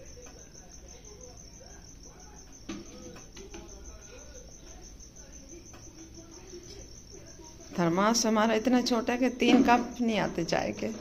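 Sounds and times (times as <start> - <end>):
faint voices: 0.0 - 11.0
high-pitched insect trill: 0.0 - 11.0.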